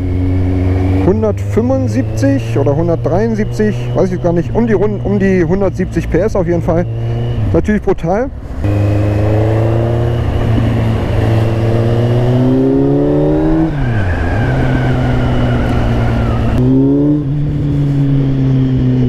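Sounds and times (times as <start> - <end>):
motorcycle engine revving: 0.0 - 7.8, 8.4 - 19.0.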